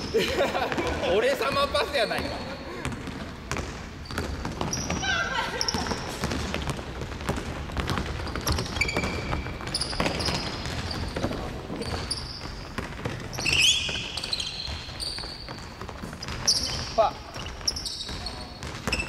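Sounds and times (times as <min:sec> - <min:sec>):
sneakers squeaking: 0:00.0 - 0:19.0
basketball bouncing on hardwood: 0:00.6 - 0:05.1, 0:05.7 - 0:19.0.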